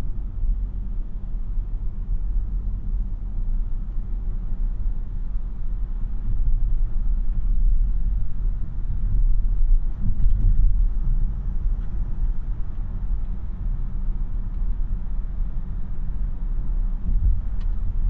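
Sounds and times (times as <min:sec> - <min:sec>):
road and tyre noise in car: 0:00.0 - 0:18.0.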